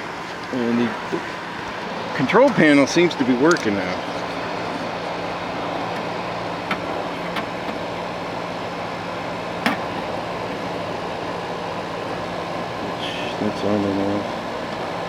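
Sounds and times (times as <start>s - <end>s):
dehumidifier humming: 0.0s - 15.0s.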